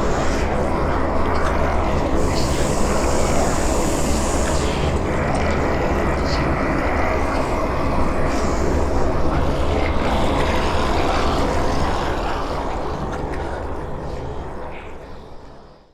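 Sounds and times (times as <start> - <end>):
low rumbling horror drone: 0.0 - 15.6.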